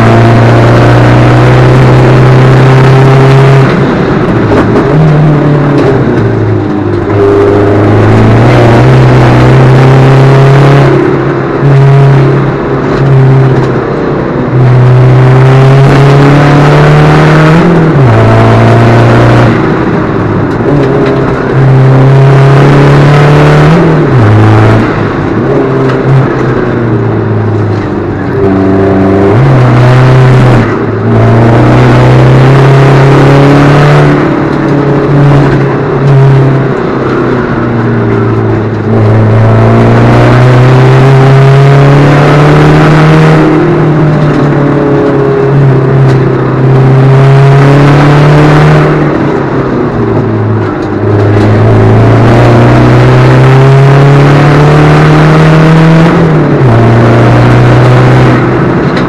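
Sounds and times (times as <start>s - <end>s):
diesel engine accelerating: 0.0s - 59.0s.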